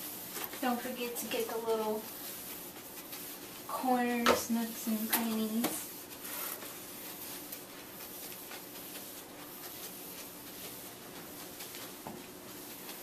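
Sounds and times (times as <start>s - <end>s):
wet mop scrubbing tile floor: 0.0s - 13.0s.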